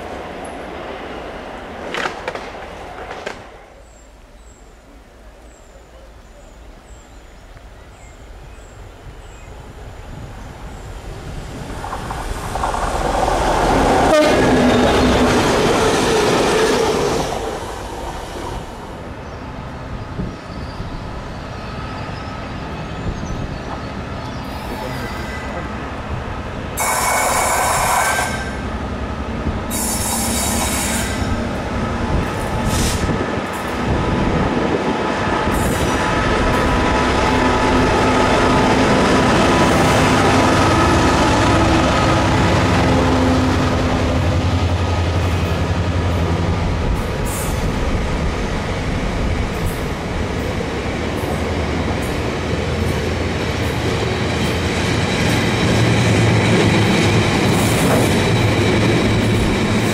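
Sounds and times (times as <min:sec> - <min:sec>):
diesel locomotive engine passing: 0:05.2 - 0:59.9
freight wagons rumbling over rails: 0:10.6 - 0:59.9.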